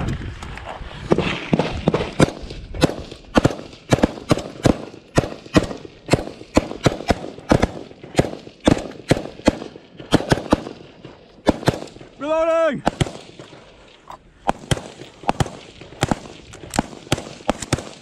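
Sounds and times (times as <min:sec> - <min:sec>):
rifle shots: 0:01.1 - 0:12.2, 0:12.8 - 0:18.0.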